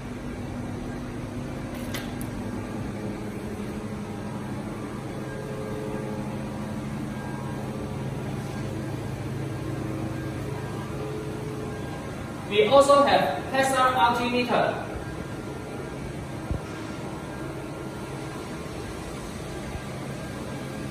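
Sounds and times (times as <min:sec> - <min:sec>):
machine hum with low tones: 0:00.0 - 0:20.9.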